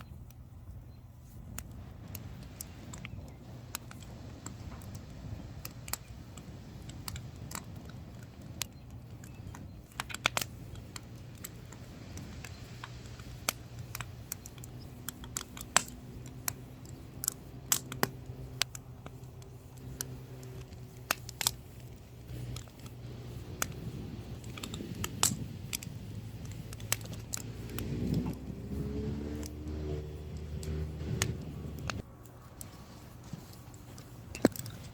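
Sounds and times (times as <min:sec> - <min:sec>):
firewood crackling and popping: 0:00.0 - 0:34.9
low steady hum: 0:00.0 - 0:34.9.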